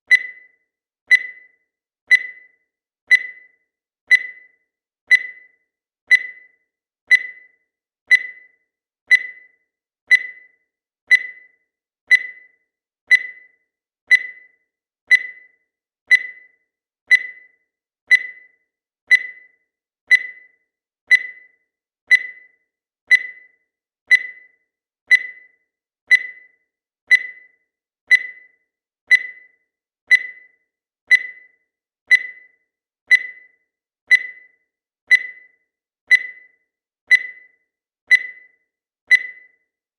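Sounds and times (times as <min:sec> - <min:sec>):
digital timer beeping: 0:00.0 - 0:39.9.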